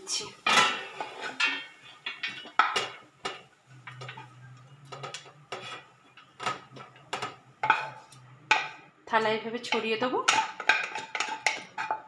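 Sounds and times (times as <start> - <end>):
spatula scraping a wok: 0.0 - 8.8, 10.4 - 12.0.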